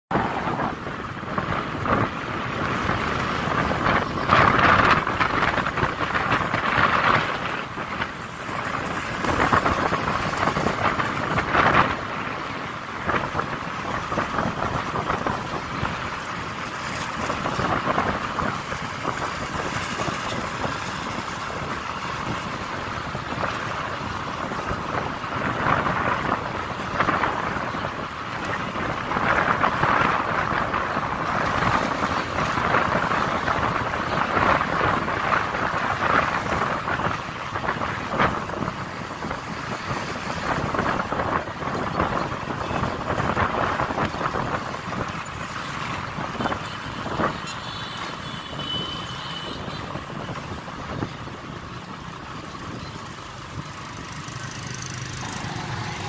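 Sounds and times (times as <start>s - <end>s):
wind noise on microphone: 0.1s - 56.0s.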